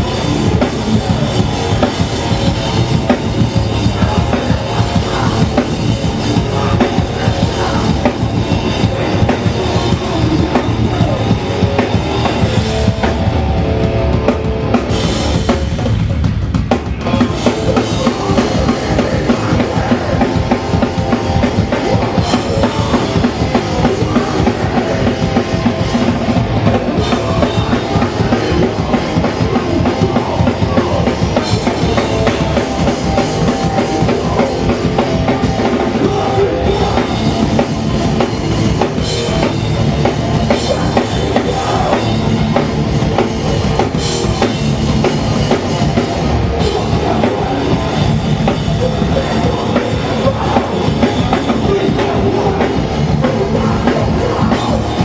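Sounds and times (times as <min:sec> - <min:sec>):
fast drum kit: 0:00.0 - 0:55.0
punk band playing live: 0:00.0 - 0:55.0.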